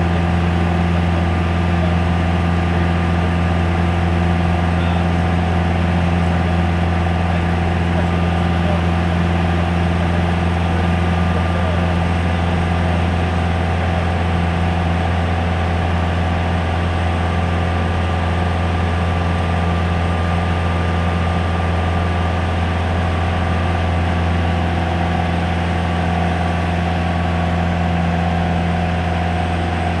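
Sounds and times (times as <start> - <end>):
aircraft engine and propeller drone: 0.0 - 30.0.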